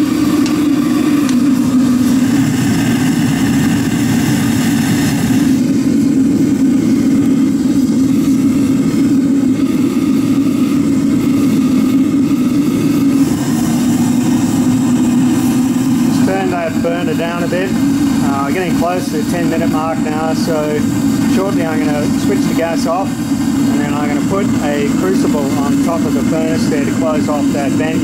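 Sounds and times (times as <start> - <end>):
gas burner drone: 0.0 - 28.0.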